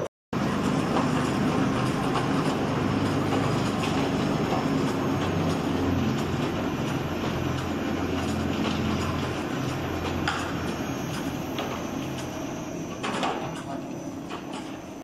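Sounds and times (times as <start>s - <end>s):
elevator mechanical drone: 0.0s - 15.0s.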